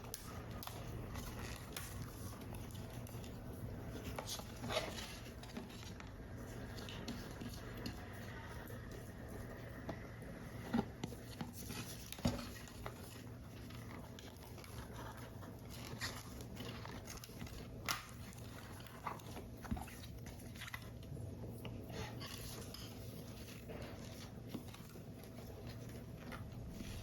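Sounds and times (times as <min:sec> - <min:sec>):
paper rustling: 0:00.0 - 0:27.0.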